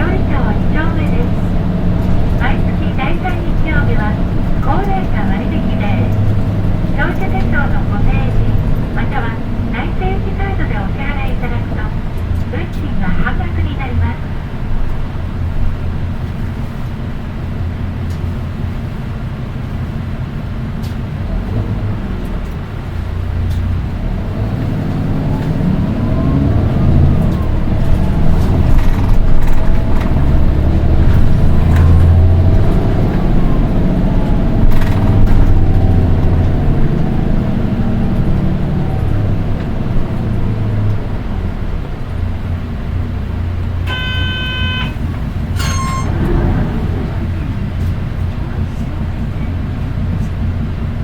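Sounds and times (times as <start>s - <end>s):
shrill high-pitched engine whine: 0.0s - 14.7s, 24.0s - 50.4s
bus engine accelerating: 0.0s - 51.0s.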